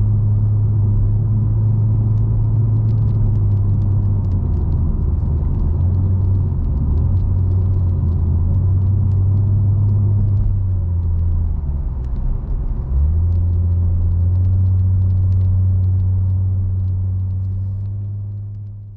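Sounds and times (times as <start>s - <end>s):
car engine rumble: 0.0s - 18.9s
road noise: 0.0s - 18.9s.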